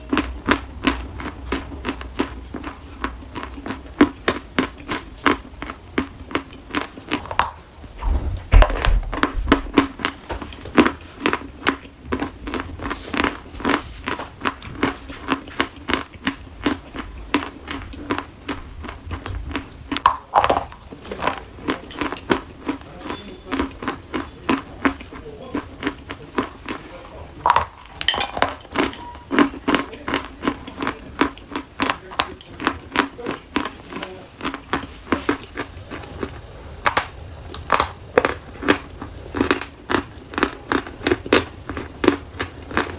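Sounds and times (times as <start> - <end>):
dry chalk crunching: 1.0 - 42.9.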